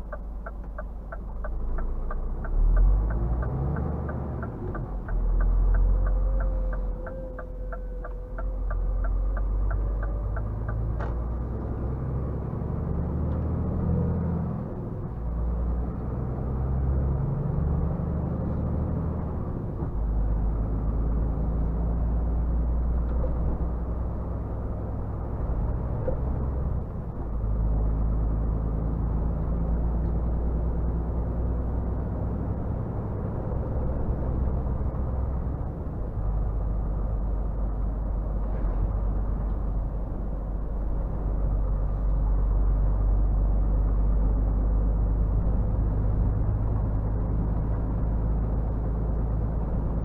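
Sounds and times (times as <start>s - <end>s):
truck diesel engine droning: 0.0s - 50.0s.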